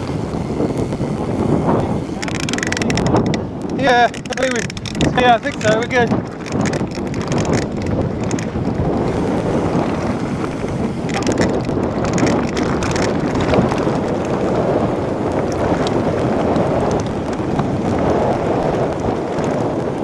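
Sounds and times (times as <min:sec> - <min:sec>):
bike rattles and clicks: 0:00.0 - 0:20.0
bike tyres rumbling on gravel: 0:00.0 - 0:20.0
wind buffeting microphone: 0:00.0 - 0:20.0.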